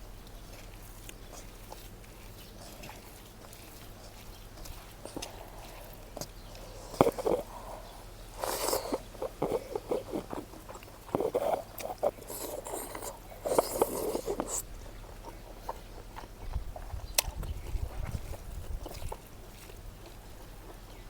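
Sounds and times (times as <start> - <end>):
chewing and biting food: 0.0 - 21.0.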